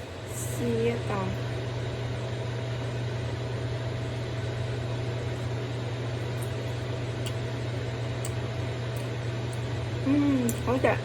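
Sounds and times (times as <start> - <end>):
extractor fan humming: 0.0 - 11.0.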